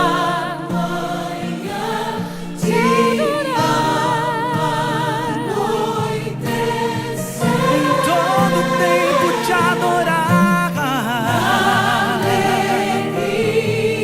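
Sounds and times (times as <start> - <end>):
choir singing gospel song: 0.0 - 14.0
musical backing: 0.0 - 14.0.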